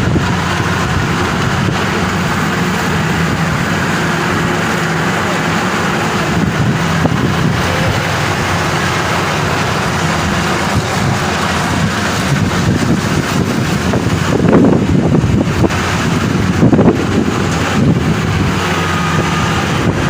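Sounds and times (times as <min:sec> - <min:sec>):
harvester engine running: 0:00.0 - 0:20.0.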